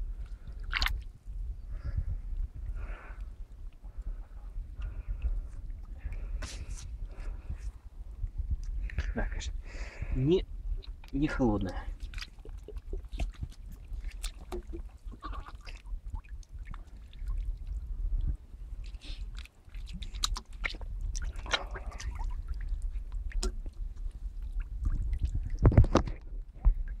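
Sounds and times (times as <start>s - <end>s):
wind on microphone: 0.0s - 11.0s, 11.7s - 27.0s
water splashing and sloshing: 0.0s - 27.0s.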